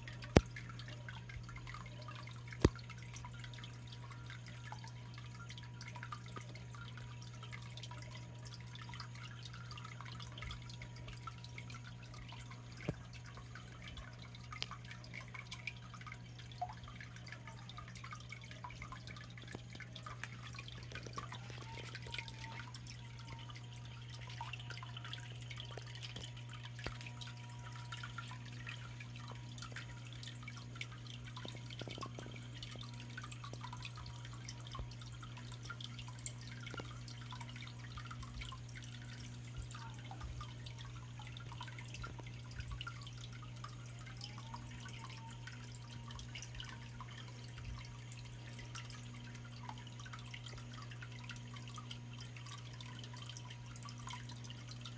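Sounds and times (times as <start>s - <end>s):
water trickling into pond: 0.0s - 54.9s.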